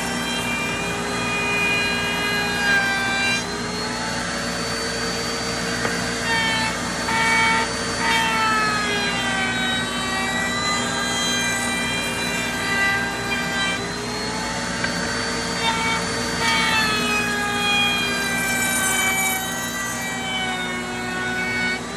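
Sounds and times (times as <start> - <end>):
router whining cutting wood: 0.0 - 21.9.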